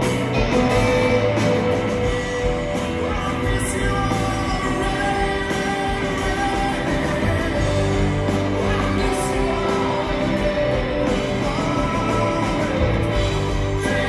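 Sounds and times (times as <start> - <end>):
live rock band playing: 0.0 - 14.0
man singing: 0.0 - 14.0.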